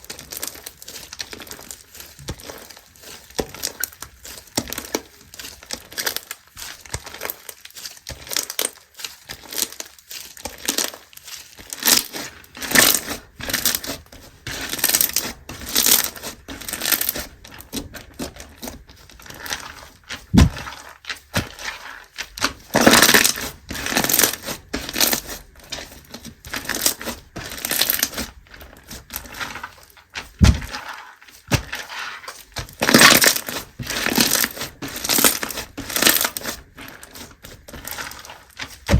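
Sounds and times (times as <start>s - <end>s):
slime squishing crackly: 0.0s - 38.9s.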